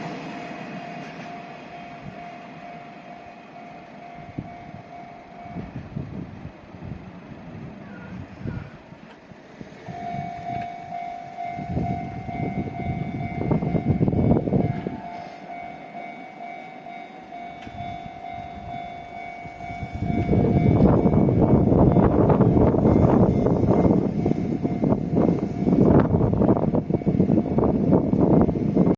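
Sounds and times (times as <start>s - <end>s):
level crossing warning bell: 0.0s - 6.8s, 9.7s - 28.9s
freight train rumbling past: 0.0s - 28.9s.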